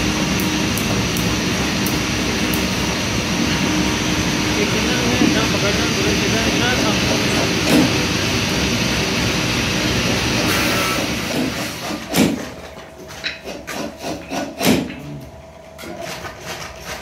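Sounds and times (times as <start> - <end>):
steady mechanical running noise: 0.0 - 17.0.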